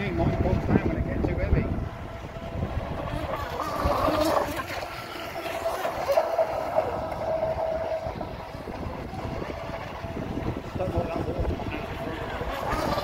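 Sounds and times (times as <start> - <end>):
model boat motor whine: 0.0 - 13.0.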